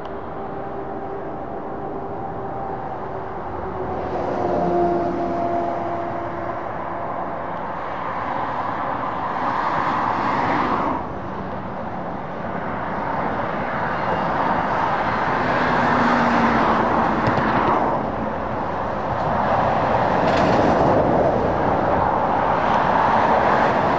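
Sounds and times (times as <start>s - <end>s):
lorries and cars passing: 0.0s - 23.9s.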